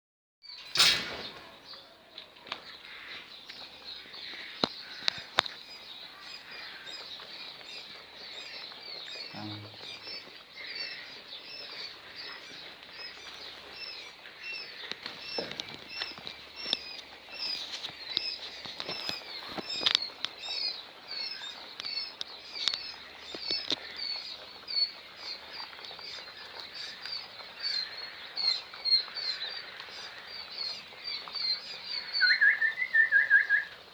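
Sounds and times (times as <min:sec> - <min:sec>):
quail chicks peeping: 0:00.4 - 0:33.9.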